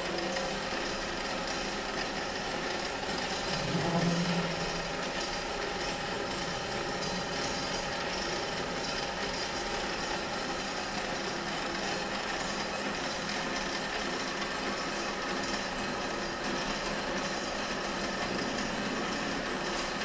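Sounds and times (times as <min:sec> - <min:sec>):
lathe humming: 0:00.0 - 0:20.0.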